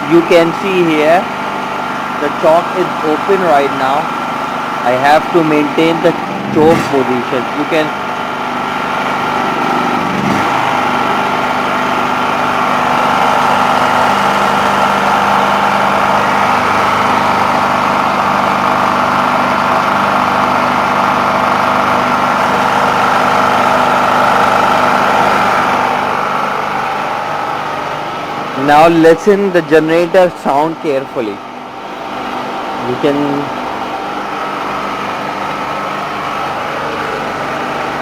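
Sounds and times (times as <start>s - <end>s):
generator engine running: 0.0s - 38.0s.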